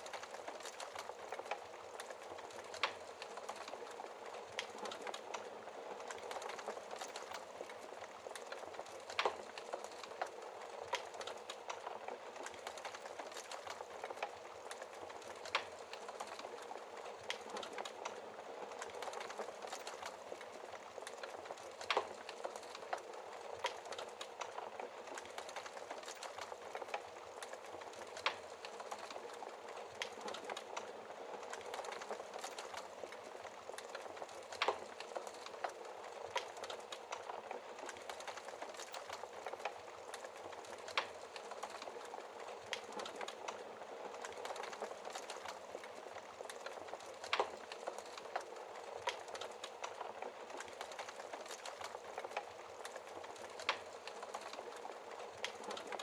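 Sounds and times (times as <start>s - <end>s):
wood fire crackling in fireplace: 0.0s - 56.0s.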